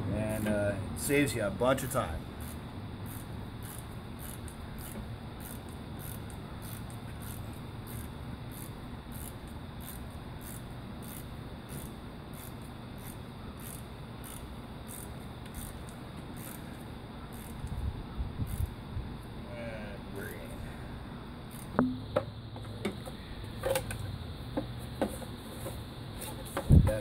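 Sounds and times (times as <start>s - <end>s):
low steady hum: 0.0s - 27.0s
insect chirping: 0.3s - 26.8s.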